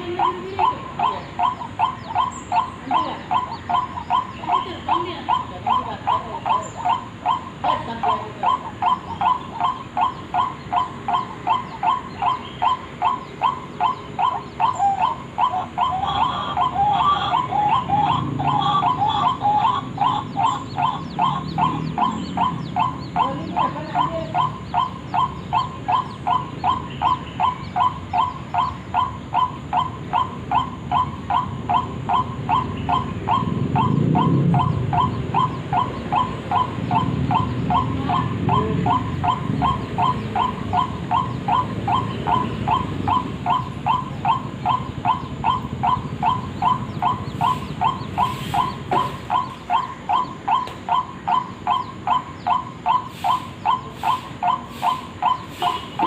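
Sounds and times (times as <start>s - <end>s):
overlapping bird notes: 0.0s - 56.0s
waterhen calling: 0.0s - 56.0s.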